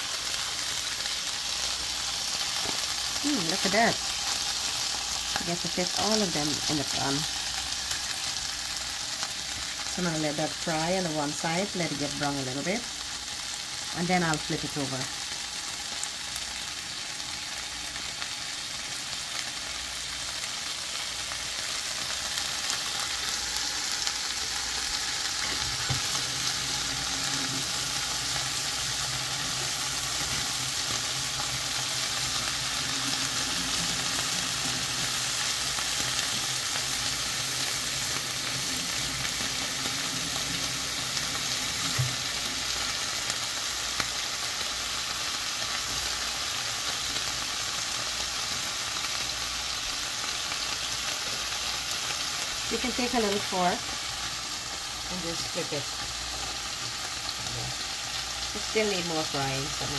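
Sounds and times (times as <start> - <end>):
cheese sizzling in oil: 0.0 - 59.9.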